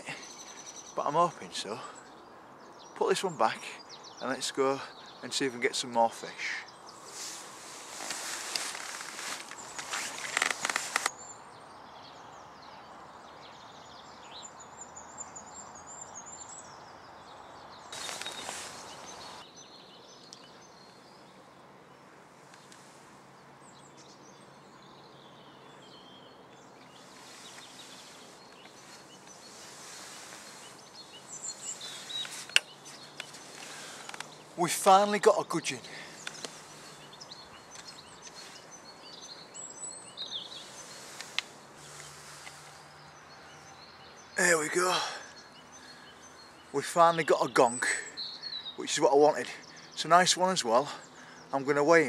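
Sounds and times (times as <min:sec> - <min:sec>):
steady outdoor hiss: 0:00.0 - 0:52.0.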